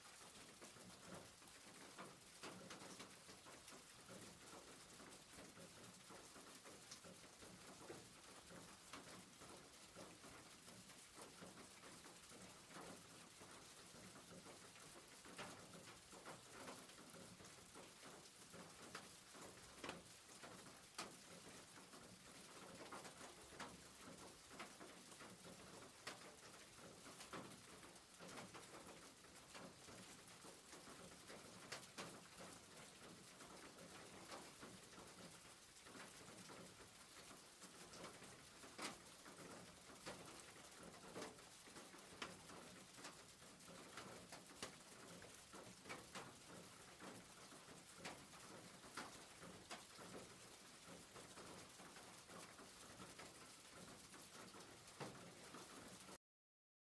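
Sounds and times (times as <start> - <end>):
rain hissing on roof: 0.0 - 56.2.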